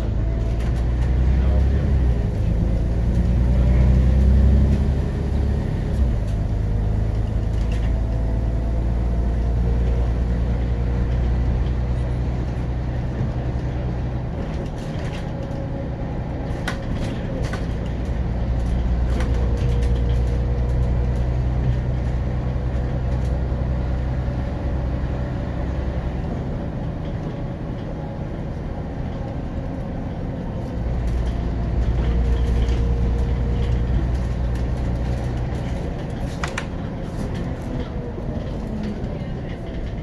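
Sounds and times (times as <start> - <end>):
bus body rattles: 0.0 - 40.0
bus diesel engine running: 0.0 - 40.0.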